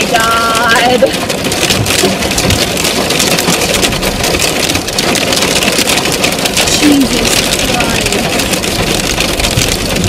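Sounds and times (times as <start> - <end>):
hail clattering on car roof: 0.0 - 10.0
steady rumble: 0.0 - 10.0.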